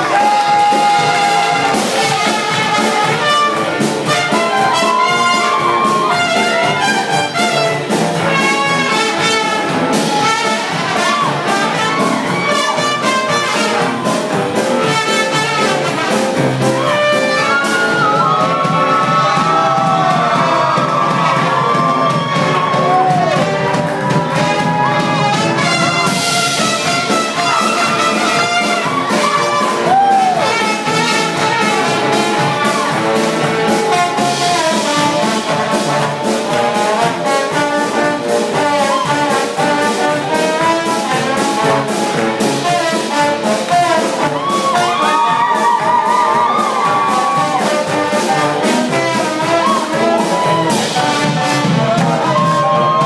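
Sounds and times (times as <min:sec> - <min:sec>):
brass horn melody: 0:00.0 - 0:53.0
steady percussive beat: 0:00.0 - 0:53.0.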